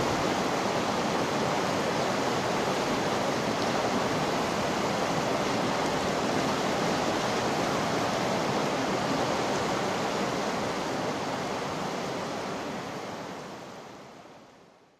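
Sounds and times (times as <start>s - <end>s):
river water flowing: 0.0s - 14.9s.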